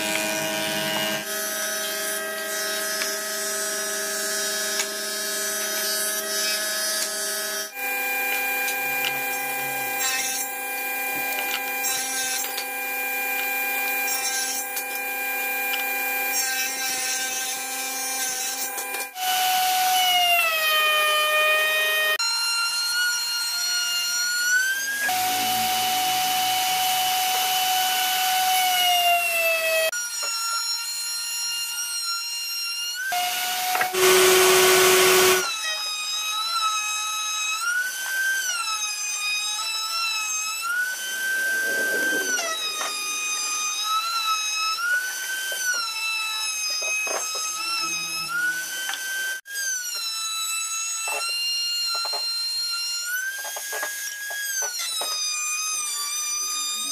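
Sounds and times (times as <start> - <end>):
power saw cutting wood: 0.0 - 56.9.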